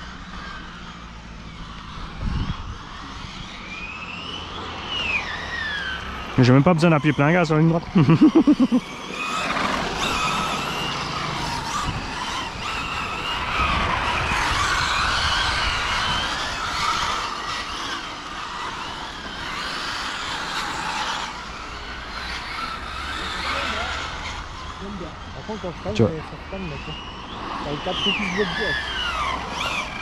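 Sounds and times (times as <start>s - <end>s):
model car motor revving: 0.0s - 30.0s.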